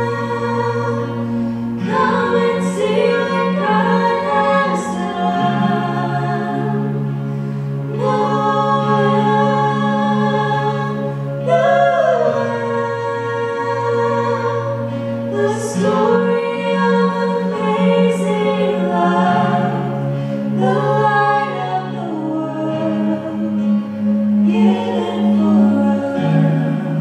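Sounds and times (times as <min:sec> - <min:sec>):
sustained low accompaniment: 0:00.0 - 0:27.0
women singing slow song: 0:00.0 - 0:27.0.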